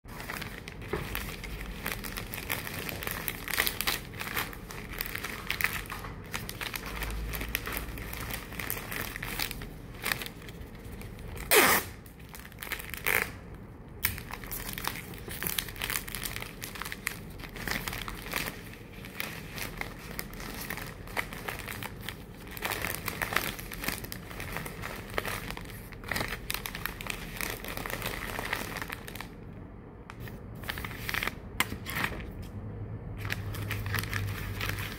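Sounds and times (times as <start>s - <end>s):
crinkling handling noise: 0.1s - 34.9s.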